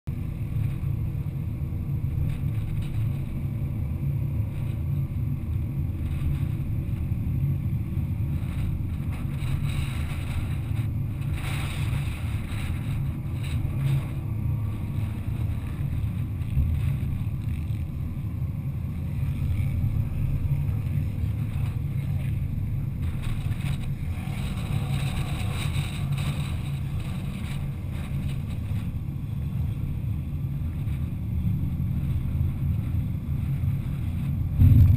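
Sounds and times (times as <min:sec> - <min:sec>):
car driving road noise: 0:00.1 - 0:34.9.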